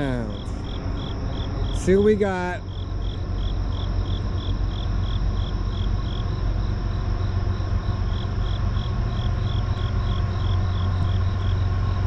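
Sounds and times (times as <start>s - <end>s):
cricket chirping: 0.0s - 12.0s
distant freight train rumble: 0.0s - 12.0s.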